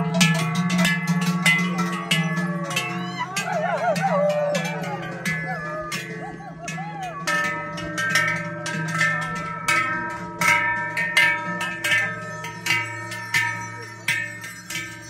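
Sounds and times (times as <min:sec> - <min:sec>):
large cowbells clanging: 0:00.0 - 0:15.0.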